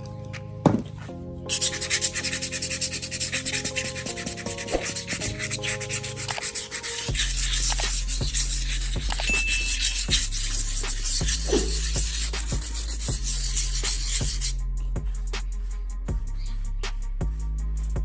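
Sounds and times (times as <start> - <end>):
sandpaper rubbing on metal: 1.5 - 18.0.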